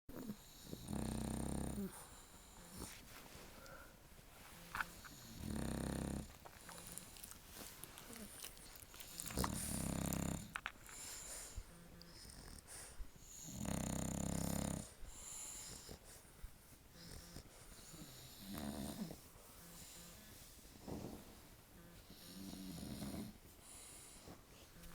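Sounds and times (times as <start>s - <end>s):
dog snoring: 0.1s - 3.0s, 4.7s - 7.3s, 8.0s - 16.2s, 16.9s - 24.9s.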